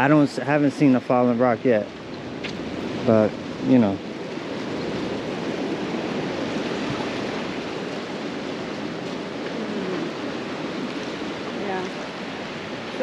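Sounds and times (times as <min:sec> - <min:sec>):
ocean surf on beach: 0:00.0 - 0:13.0.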